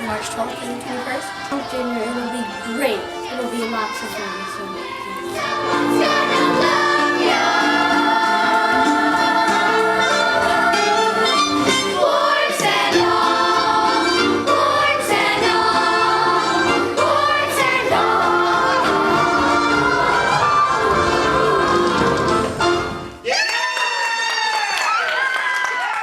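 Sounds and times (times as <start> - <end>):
choir singing long held notes: 0.3 - 23.0.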